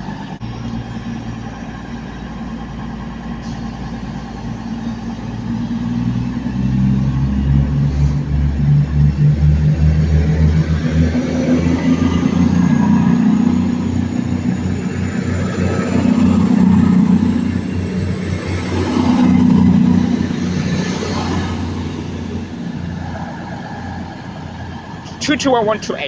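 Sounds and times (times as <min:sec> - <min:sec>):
train diesel engines droning: 0:00.0 - 0:26.0.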